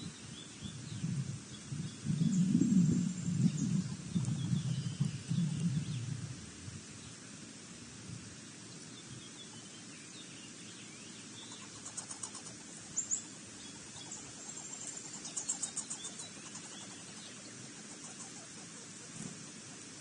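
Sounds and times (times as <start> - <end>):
wild birds chirping: 0.0 - 6.1, 8.7 - 19.8
steady outdoor hiss: 0.0 - 20.0.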